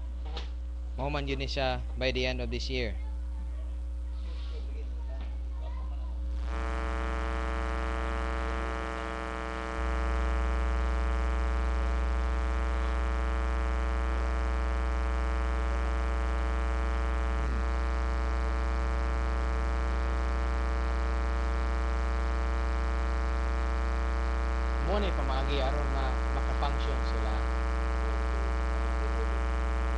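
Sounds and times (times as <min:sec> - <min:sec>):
electrical mains hum and buzz: 0:00.0 - 0:29.9.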